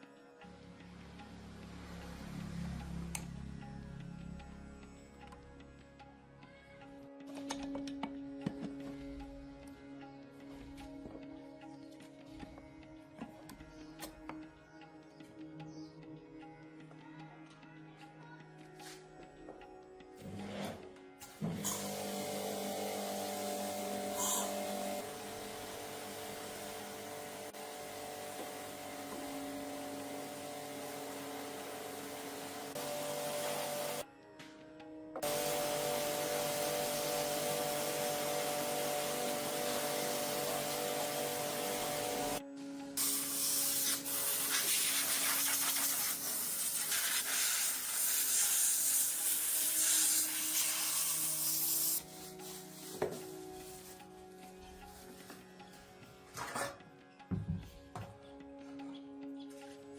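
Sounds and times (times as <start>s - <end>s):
faint music: 0.0s - 59.9s.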